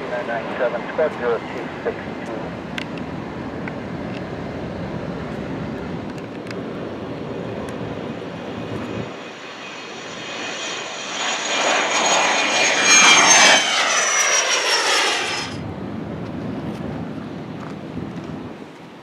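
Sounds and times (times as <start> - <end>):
jet airplane passing: 0.0 - 17.6.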